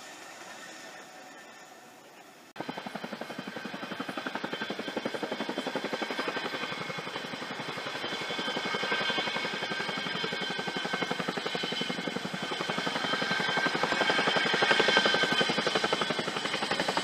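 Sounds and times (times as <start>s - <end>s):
helicopter rotor blades chopping: 0.0s - 17.0s.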